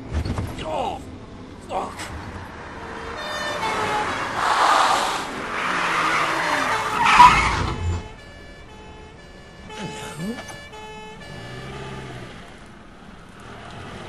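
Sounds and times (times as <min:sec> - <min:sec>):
car engine: 0:00.0 - 0:14.0
tyres screeching: 0:01.7 - 0:14.0.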